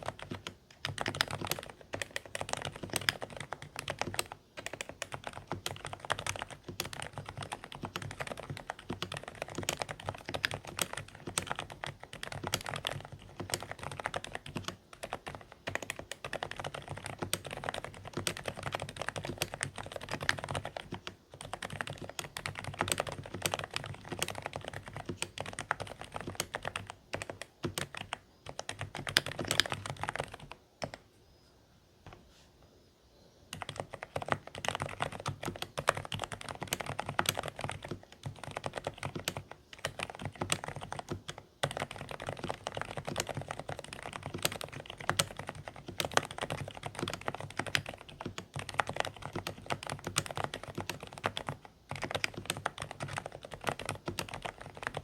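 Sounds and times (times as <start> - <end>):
muffled keyboard typing: 0.0 - 31.1, 33.5 - 55.0.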